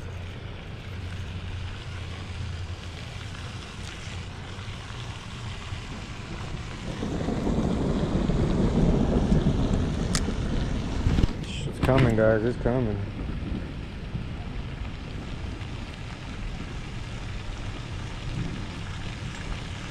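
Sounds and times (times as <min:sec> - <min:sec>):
gusty wind buffeting microphone: 0:00.0 - 0:19.9.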